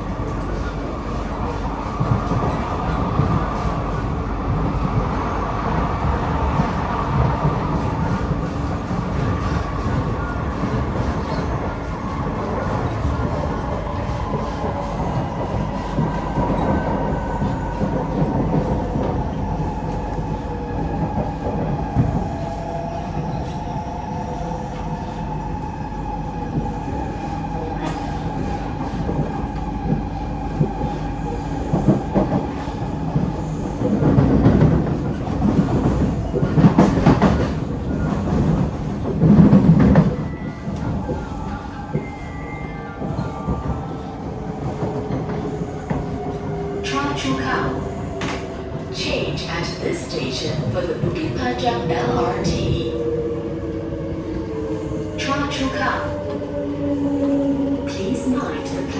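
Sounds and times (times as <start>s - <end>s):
rumble of wheels on track: 0.0s - 58.9s.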